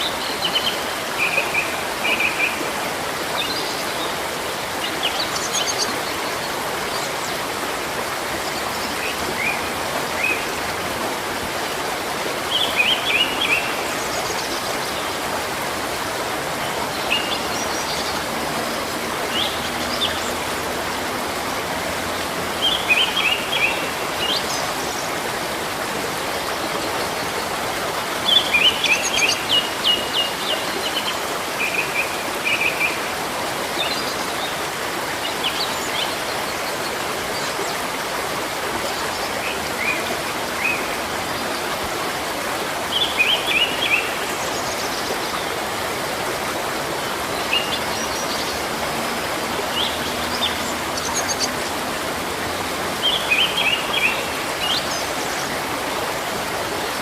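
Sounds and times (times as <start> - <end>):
running stream water: 0.0 - 57.0
songbirds chirping: 0.0 - 57.0.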